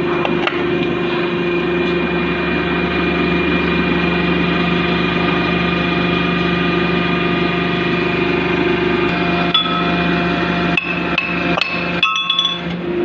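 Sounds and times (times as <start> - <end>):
high machine whine: 0.0 - 13.0
industrial machine humming: 0.0 - 13.0.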